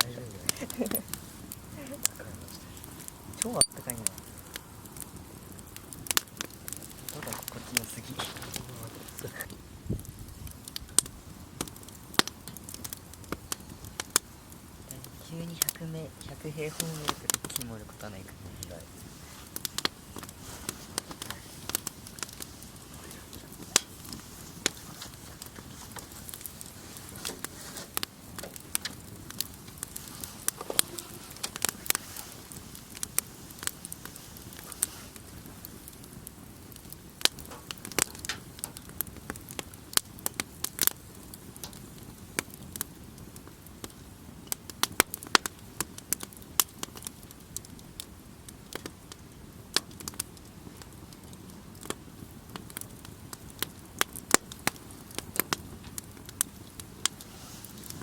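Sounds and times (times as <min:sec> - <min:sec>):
campfire crackling and popping: 0:00.0 - 0:58.0
soft steady fire hiss: 0:00.0 - 0:58.0.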